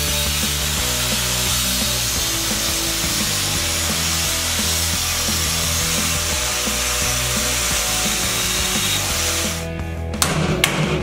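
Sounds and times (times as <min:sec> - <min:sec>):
angle grinder cutting steel: 0:00.0 - 0:09.7
background music: 0:00.0 - 0:11.0.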